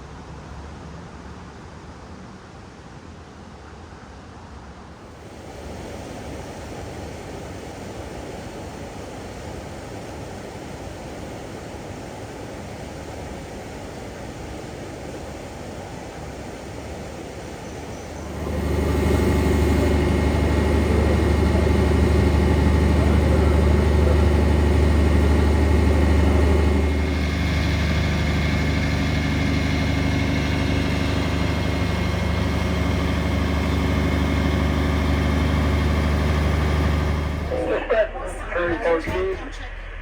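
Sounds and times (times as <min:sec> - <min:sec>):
diesel train engine humming: 0:05.2 - 0:40.0.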